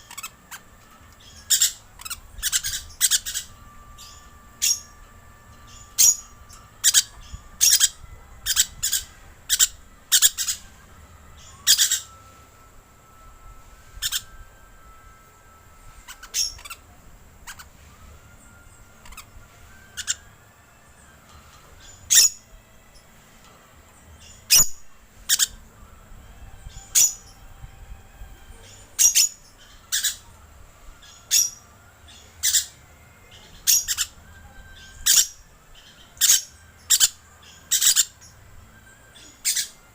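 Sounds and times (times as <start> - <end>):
whistled bird notes: 0.0 - 39.9.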